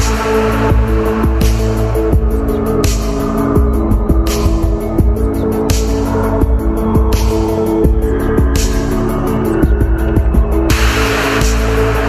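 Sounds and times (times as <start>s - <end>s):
steady beat with deep bass: 0.0s - 12.0s.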